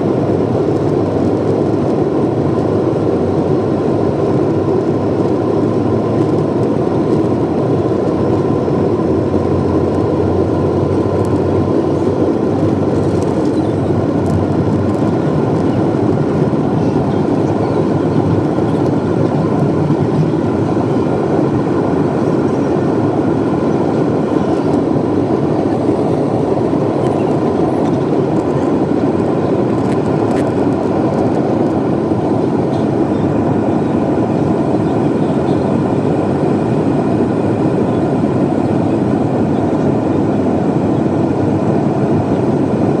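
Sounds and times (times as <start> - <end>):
jet cabin engine rush: 0.0 - 43.0.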